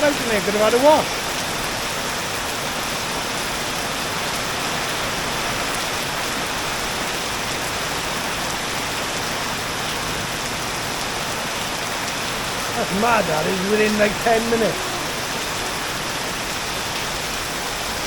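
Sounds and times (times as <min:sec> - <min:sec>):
heavy rain drumming: 0:00.0 - 0:18.0.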